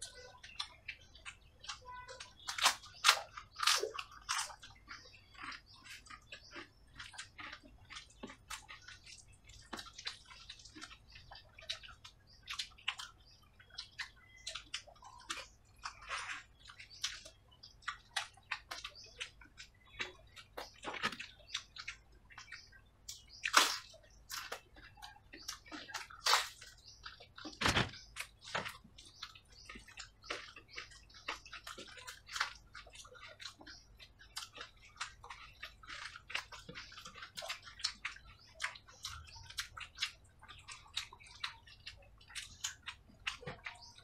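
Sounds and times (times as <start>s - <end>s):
chewing and lip smacking: 0.0s - 44.0s.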